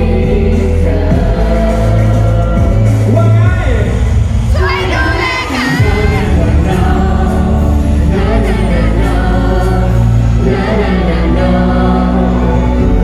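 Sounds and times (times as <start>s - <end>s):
sustained bass notes: 0.0s - 4.4s, 5.8s - 13.0s
live pop song with band: 0.0s - 13.0s.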